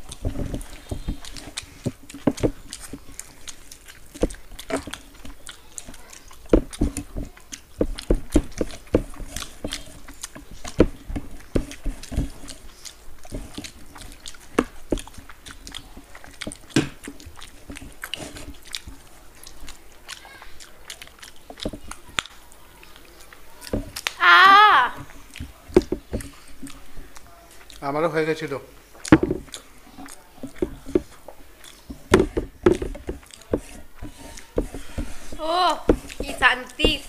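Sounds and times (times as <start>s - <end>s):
wet chewing and lip smacking: 0.0s - 24.3s, 24.9s - 37.0s.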